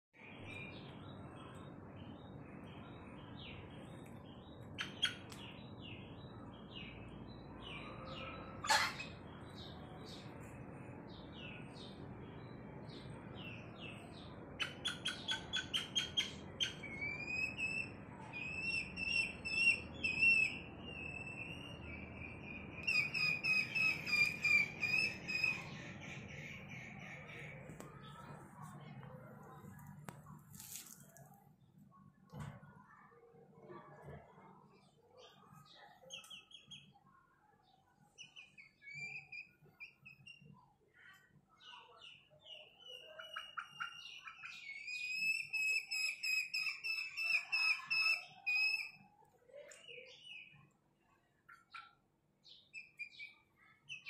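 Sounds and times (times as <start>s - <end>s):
bird chirps and calls: 0.2s - 10.5s, 11.2s - 29.8s, 38.0s - 50.8s, 51.4s - 54.0s.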